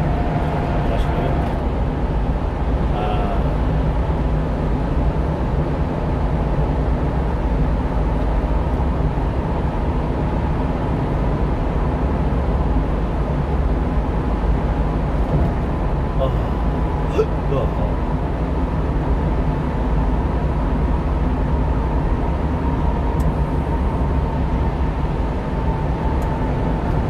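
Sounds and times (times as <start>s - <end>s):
truck engine and road noise: 0.0s - 27.0s.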